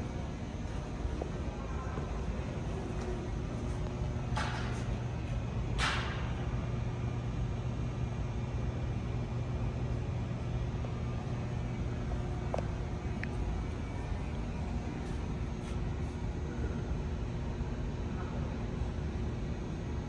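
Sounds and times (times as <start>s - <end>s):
exhibition hall rumble and hum: 0.0s - 20.0s.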